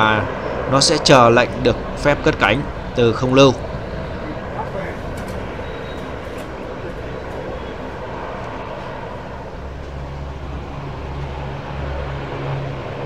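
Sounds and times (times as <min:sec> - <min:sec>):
deep low hum: 0:00.0 - 0:13.0
distant turboprop engines idling: 0:00.0 - 0:13.0.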